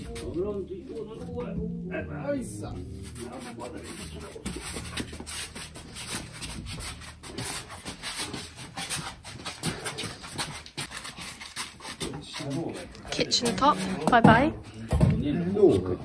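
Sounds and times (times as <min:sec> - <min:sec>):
people straining and grunting: 0:01.2 - 0:16.0.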